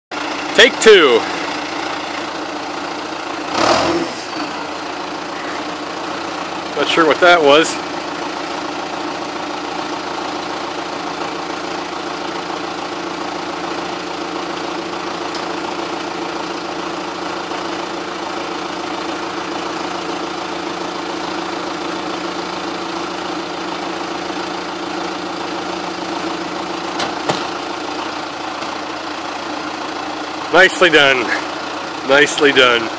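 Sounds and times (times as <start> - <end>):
engines idling: 0.1 - 32.9.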